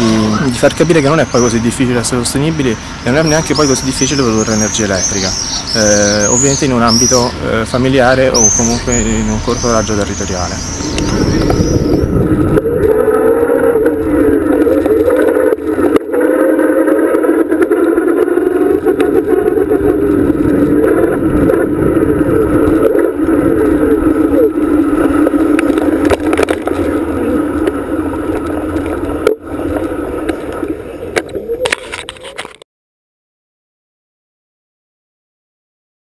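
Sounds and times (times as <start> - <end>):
bicycle ride noise: 0.0 - 32.6.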